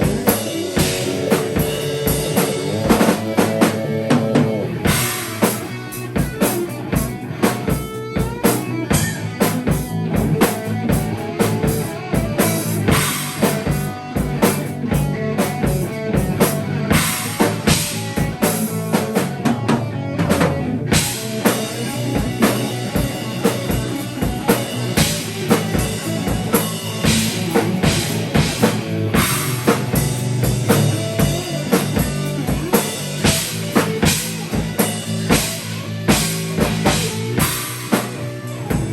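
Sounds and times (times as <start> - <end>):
band playing live: 0.0 - 38.9
drum kit beat with rimshots: 0.0 - 38.9.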